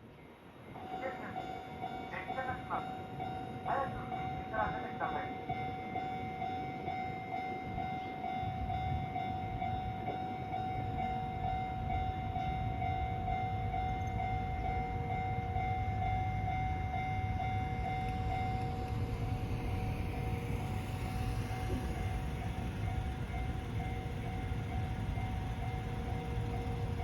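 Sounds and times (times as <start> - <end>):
train rumbling: 0.0 - 27.0
level crossing warning bell ringing: 0.8 - 27.0.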